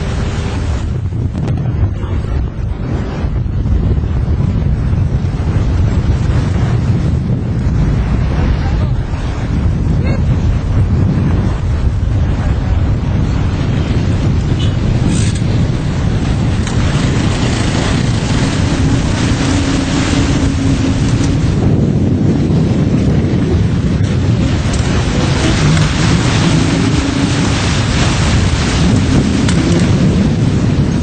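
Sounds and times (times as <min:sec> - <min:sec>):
floodwater rushing: 0:00.0 - 0:31.0
wind buffeting microphone: 0:00.0 - 0:31.0.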